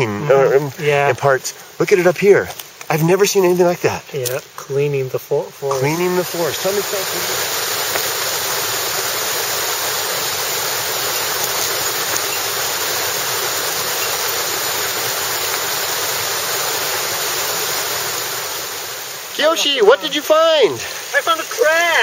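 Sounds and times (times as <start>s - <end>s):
flowing stream rushing: 0.0s - 22.0s.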